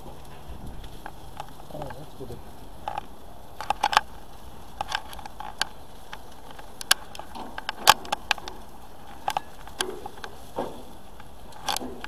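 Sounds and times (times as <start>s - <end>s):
chicken sizzling on a grill: 0.0s - 12.0s
fat popping and crackling: 0.0s - 12.0s.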